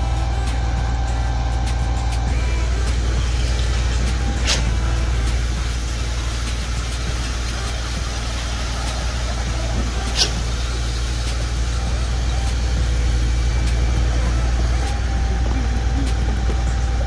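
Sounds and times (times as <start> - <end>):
diesel engines droning: 0.0 - 17.0.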